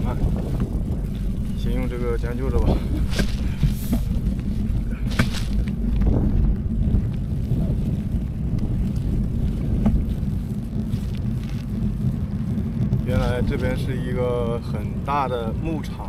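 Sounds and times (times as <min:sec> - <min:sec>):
bicycle tyre noise on road: 0:00.0 - 0:16.0
wind rumble on microphone: 0:00.0 - 0:16.0.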